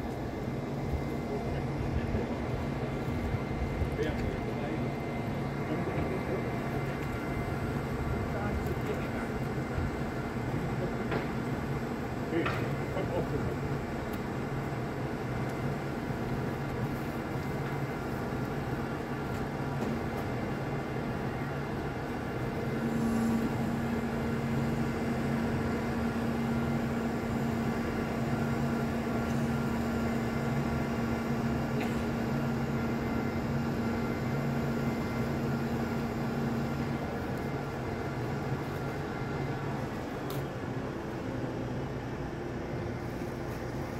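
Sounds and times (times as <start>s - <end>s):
heavy diesel engines running: 0.0s - 43.9s
steady humming tone: 0.0s - 43.9s.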